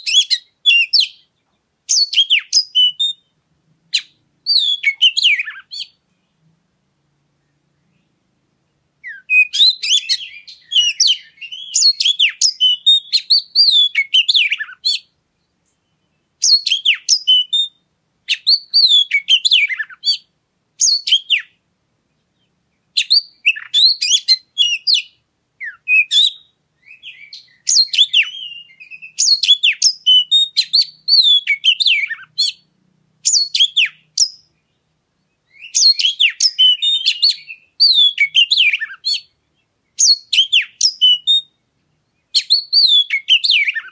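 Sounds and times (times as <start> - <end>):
bird singing whistles and chatter: 0.0 - 1.3, 1.9 - 3.3, 4.0 - 6.0, 9.0 - 15.1, 15.8 - 21.6, 22.4 - 34.6, 35.4 - 39.3, 40.0 - 41.6, 42.3 - 43.9.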